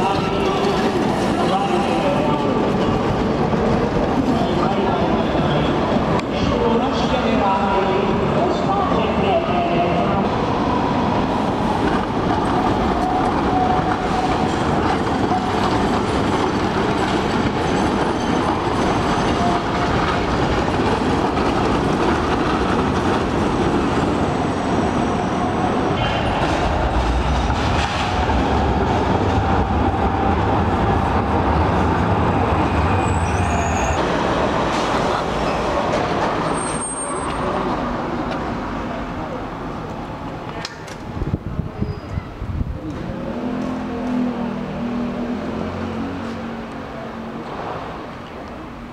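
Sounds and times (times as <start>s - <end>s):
trams rumbling on rails: 0.0s - 48.9s.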